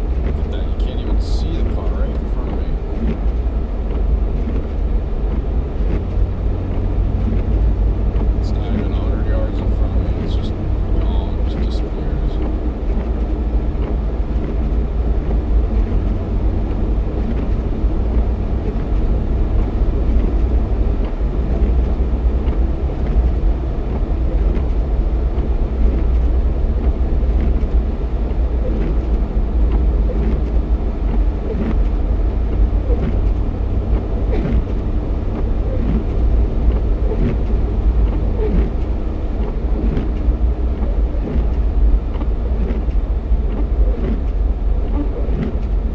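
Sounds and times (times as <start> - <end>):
car engine rumble: 0.0 - 45.9
road noise: 0.0 - 45.9.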